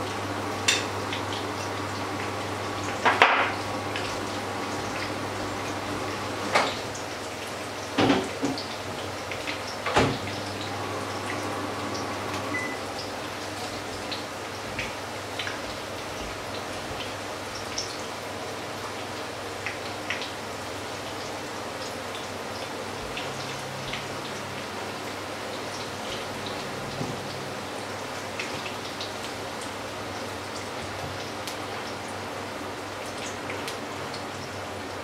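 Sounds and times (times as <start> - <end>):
fritters sizzling in hot oil: 0.0 - 35.0.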